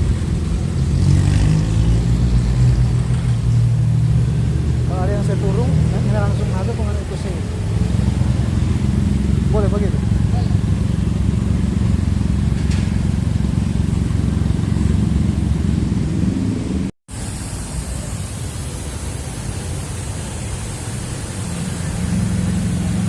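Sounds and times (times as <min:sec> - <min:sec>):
vehicle rumble with hiss: 0:00.0 - 0:23.0.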